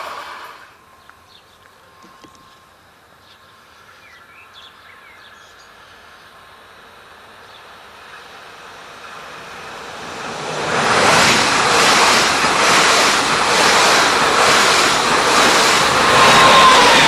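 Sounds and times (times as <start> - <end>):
train approaching: 0.0 - 17.0.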